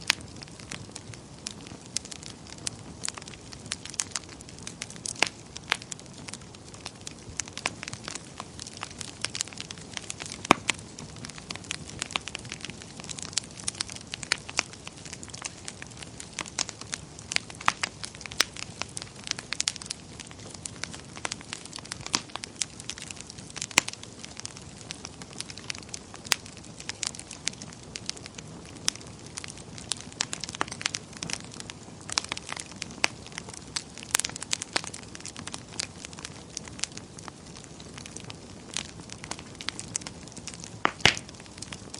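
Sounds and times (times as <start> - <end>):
soft steady fire hiss: 0.0 - 41.9
wood fire crackling and popping: 0.0 - 41.9.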